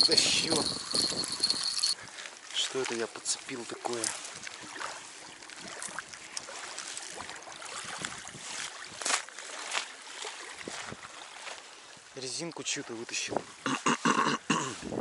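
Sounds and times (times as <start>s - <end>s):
water sloshing and splashing: 0.0s - 13.6s.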